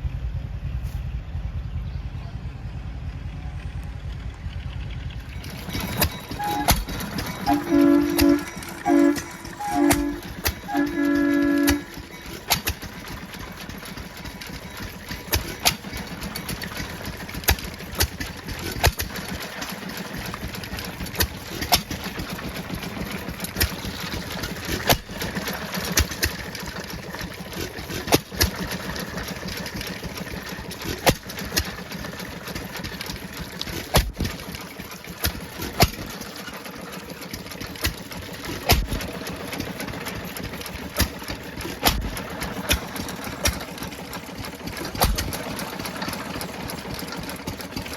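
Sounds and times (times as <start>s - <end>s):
clatter of running engines: 0.0s - 47.9s.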